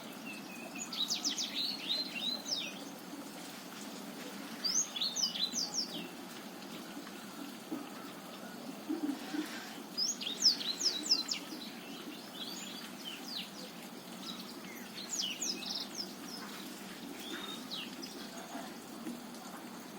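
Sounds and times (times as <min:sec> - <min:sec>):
steady low background noise: 0:00.0 - 0:19.9.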